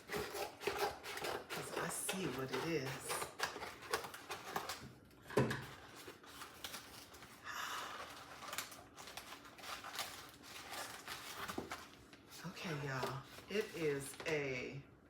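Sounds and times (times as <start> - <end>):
packaging rustling and crinkling: 0.0 - 14.3.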